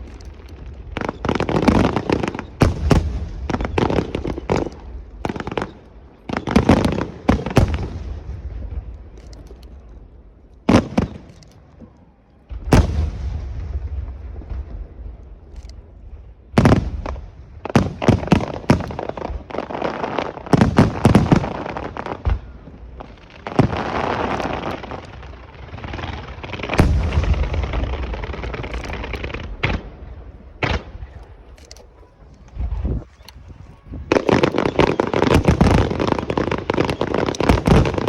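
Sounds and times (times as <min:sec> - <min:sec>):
fireworks bangs and booms: 0:00.0 - 0:38.0
fireworks crackling: 0:00.0 - 0:38.0.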